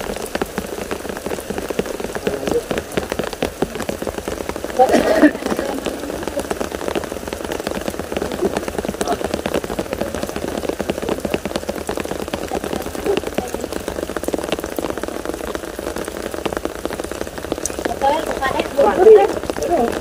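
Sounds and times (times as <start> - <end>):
rain on a roof: 0.0 - 20.0.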